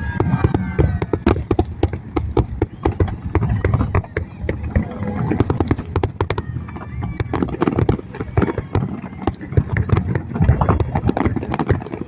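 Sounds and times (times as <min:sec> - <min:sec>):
firework whistles: 0:00.0 - 0:12.0
fireworks bangs and crackles: 0:00.0 - 0:12.0
low rumble: 0:00.0 - 0:12.0.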